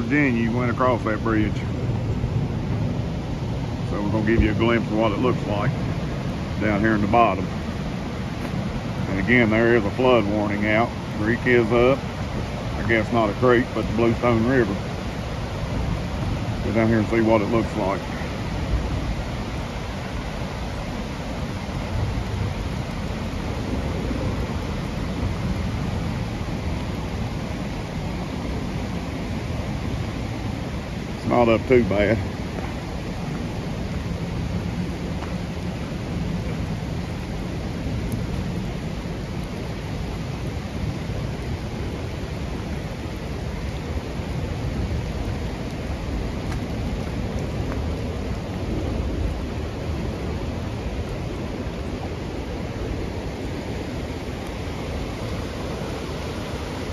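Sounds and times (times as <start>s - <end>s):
river water roaring: 0.0s - 56.9s.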